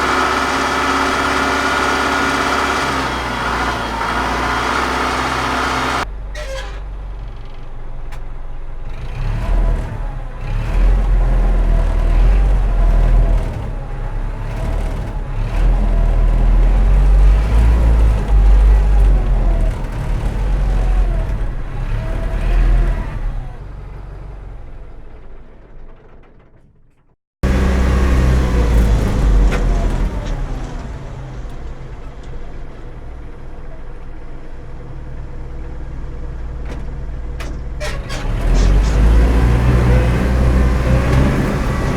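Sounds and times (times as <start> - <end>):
tractor diesel engine running: 0.0 - 8.9, 11.1 - 26.7, 27.4 - 41.9.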